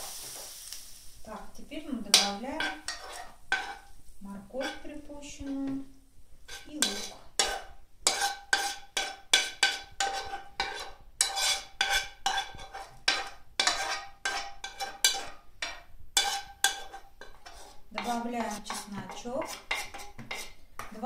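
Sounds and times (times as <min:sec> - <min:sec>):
metal spoon scraping frying pan: 0:02.1 - 0:05.7, 0:06.4 - 0:21.0.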